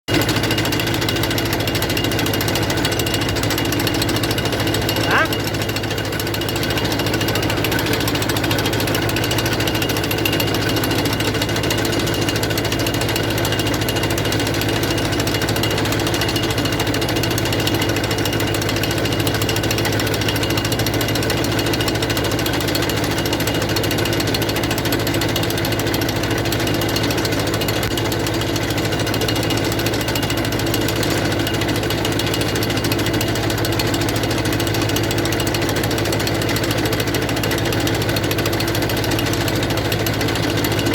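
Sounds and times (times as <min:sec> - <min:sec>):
fast mechanical rattle: 0:00.1 - 0:40.9
tractor diesel engine running: 0:00.1 - 0:40.9.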